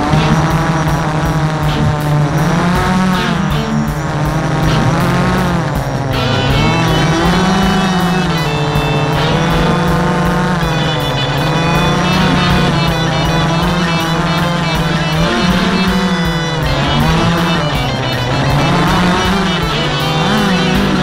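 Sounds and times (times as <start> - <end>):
drone motors whining: 0.0 - 21.0
music playing: 0.0 - 21.0.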